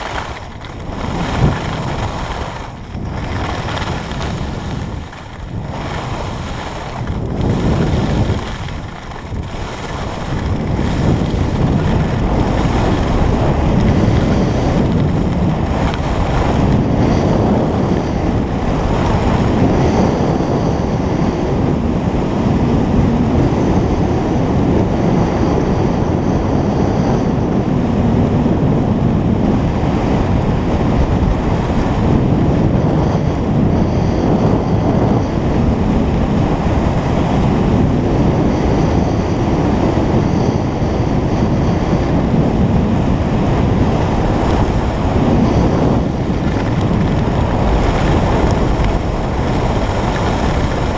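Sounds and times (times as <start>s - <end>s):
skis scraping over snow: 0.0s - 28.8s, 29.4s - 50.9s
wind buffeting microphone: 0.0s - 50.9s.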